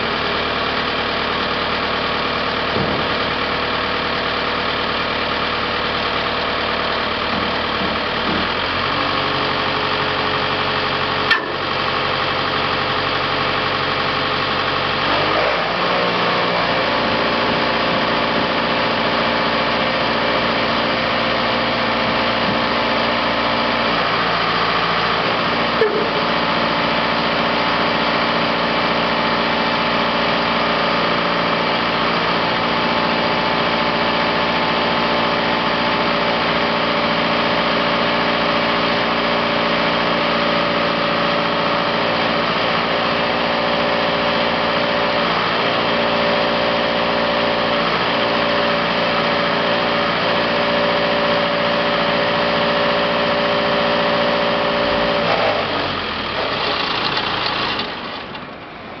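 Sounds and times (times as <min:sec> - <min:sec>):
concrete pump engine running: 0:00.0 - 0:59.0.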